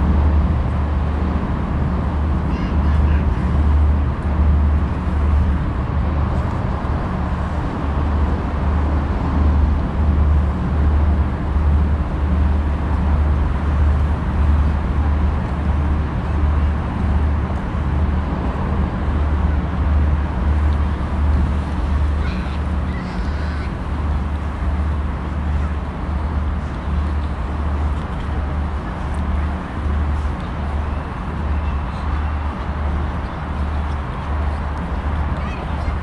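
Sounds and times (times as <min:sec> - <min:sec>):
city road traffic: 0:00.0 - 0:36.0.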